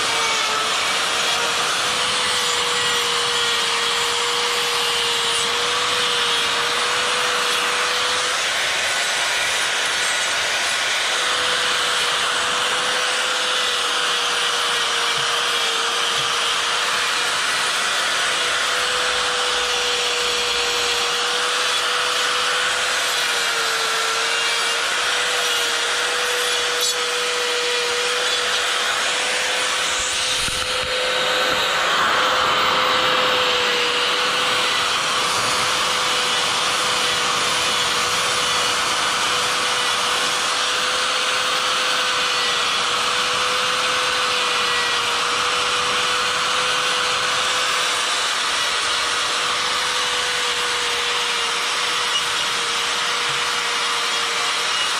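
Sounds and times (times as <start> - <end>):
die grinder whining grinding wood: 0.0 - 54.9.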